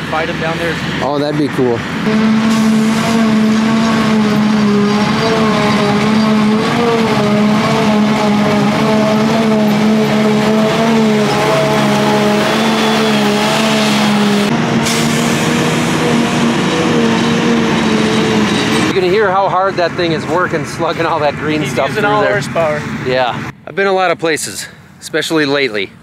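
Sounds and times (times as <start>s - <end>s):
forage harvester engine drone: 0.0s - 26.0s.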